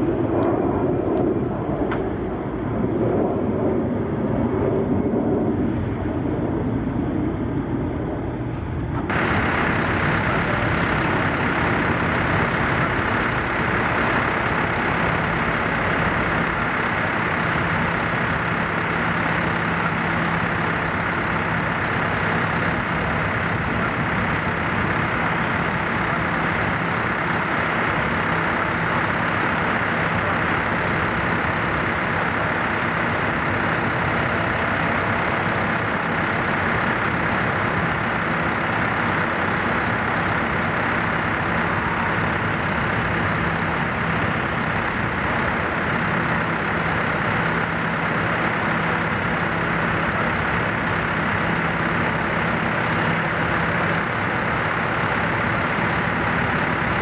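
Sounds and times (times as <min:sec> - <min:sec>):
heavy engine humming: 0:00.0 - 0:57.0.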